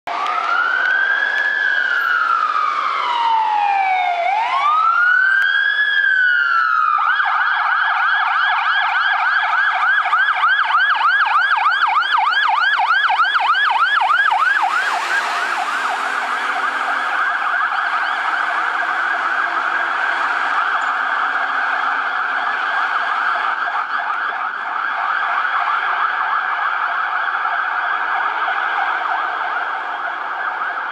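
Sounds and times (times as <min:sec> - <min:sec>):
fire engine siren: 0:00.1 - 0:30.9
road noise rush: 0:00.1 - 0:30.9.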